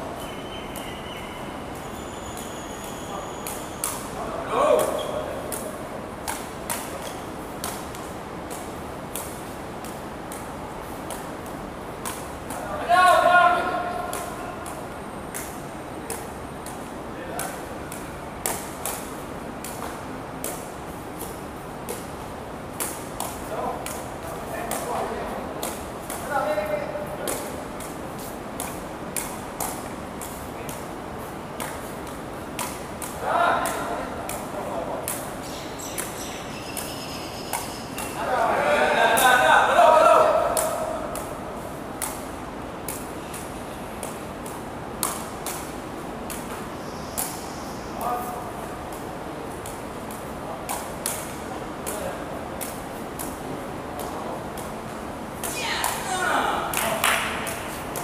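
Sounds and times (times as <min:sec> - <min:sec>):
steady background hiss: 0:00.0 - 0:58.0
steady background noise: 0:00.0 - 0:58.0.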